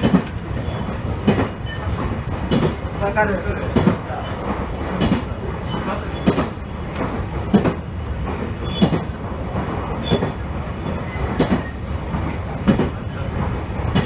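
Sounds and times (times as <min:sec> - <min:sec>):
train rumble: 0:00.0 - 0:14.0
wheels clacking over rail joints: 0:00.0 - 0:14.0.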